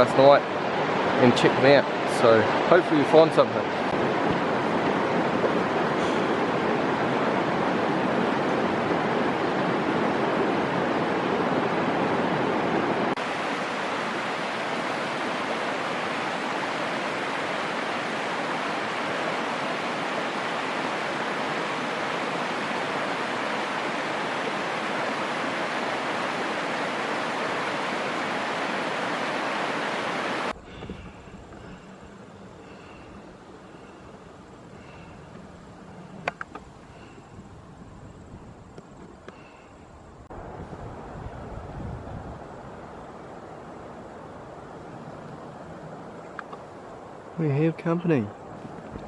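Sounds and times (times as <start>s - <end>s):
river water rushing: 0.0s - 30.6s, 40.2s - 49.0s.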